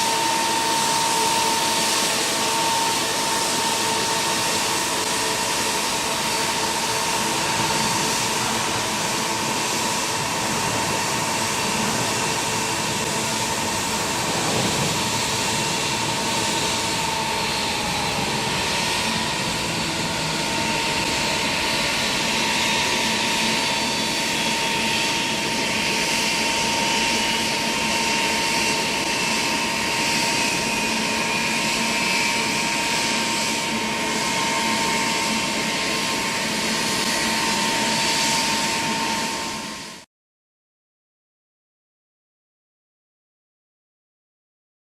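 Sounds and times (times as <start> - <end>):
jet engine with high whine: 0.0 - 40.1.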